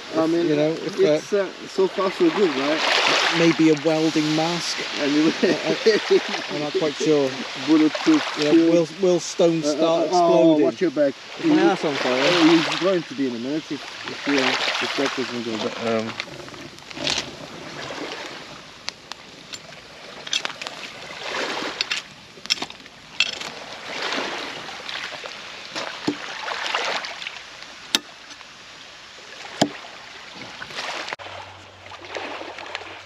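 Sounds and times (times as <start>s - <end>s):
waves washing on shore: 0.0s - 33.0s
campfire crackling and popping: 0.1s - 10.6s, 11.2s - 29.8s.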